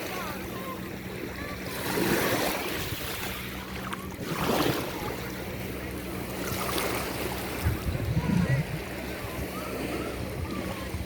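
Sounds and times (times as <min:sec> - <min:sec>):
sea waves washing and splashing: 0:00.0 - 0:11.0.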